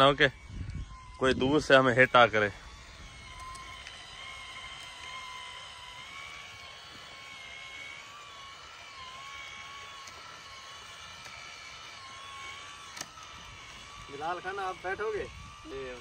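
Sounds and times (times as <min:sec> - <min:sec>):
toy tractor motor whining: 0:00.0 - 0:16.0.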